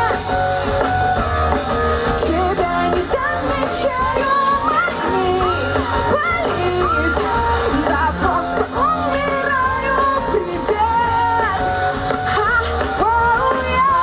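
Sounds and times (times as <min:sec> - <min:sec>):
live pop-rock band: 0:00.0 - 0:14.0
woman singing: 0:02.0 - 0:14.0.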